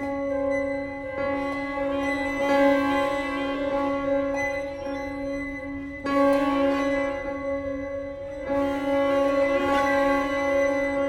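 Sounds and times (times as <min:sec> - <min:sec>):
chamber music with bassoon: 0:00.0 - 0:11.0.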